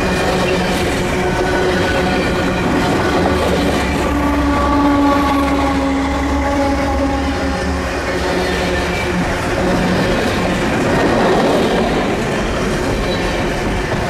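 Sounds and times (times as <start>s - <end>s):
freight train rumbling: 0.0s - 14.0s
steel wheels ringing on rail: 0.0s - 14.0s.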